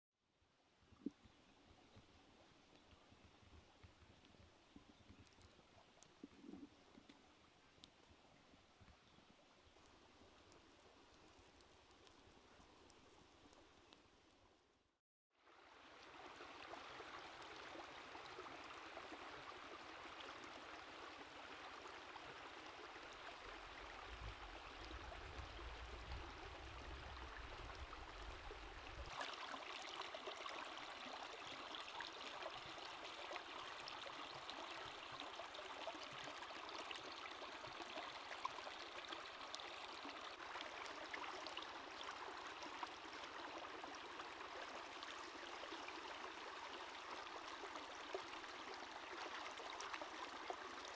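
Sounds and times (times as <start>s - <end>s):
stream running over stones: 0.9s - 14.4s, 15.4s - 50.9s.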